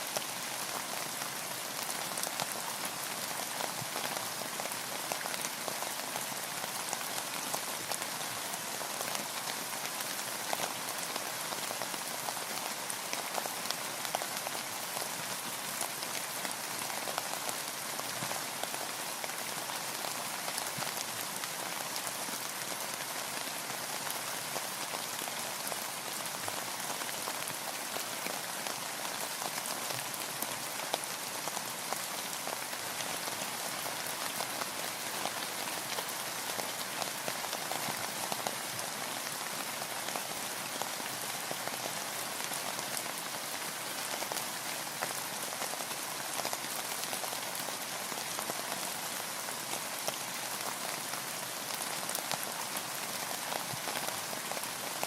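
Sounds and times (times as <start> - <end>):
rain falling on a boat: 0.0 - 55.0.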